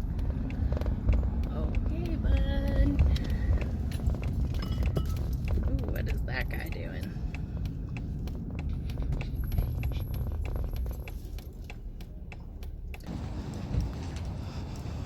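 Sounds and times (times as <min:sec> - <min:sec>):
vehicle engine rumble in cabin: 0:00.0 - 0:15.0.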